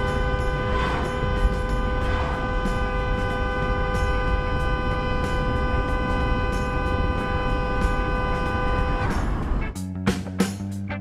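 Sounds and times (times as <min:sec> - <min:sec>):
two-tone car horn blast: 0:00.0 - 0:09.6
road and engine rumble: 0:00.0 - 0:10.7.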